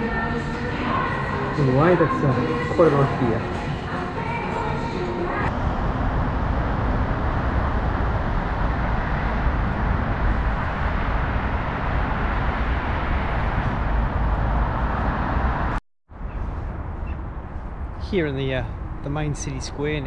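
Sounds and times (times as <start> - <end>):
city street noise with low rumble: 0.0 - 20.0.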